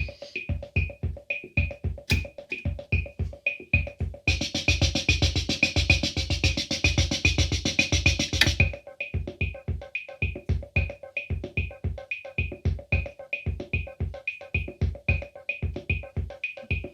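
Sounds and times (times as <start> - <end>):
drum machine rhythm: 0.0 - 16.9.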